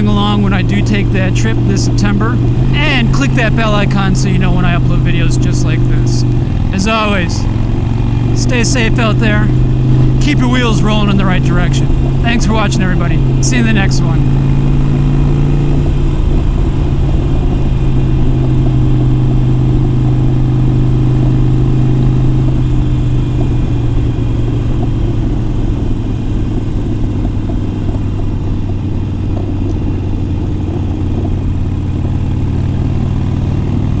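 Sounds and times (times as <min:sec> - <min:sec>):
motorcycle engine cruising: 0:00.0 - 0:34.0.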